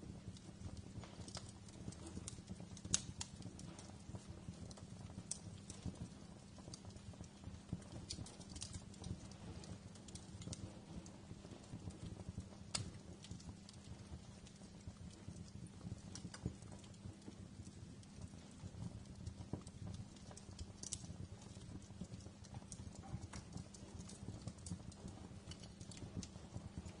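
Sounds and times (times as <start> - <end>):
low rumble of flame: 0.0 - 27.0
wood fire crackling: 0.0 - 27.0.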